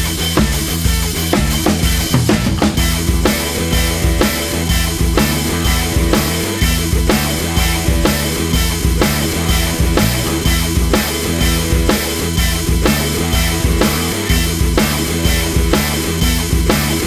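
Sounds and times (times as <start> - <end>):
rock music with driving drum beat: 0.0 - 17.0.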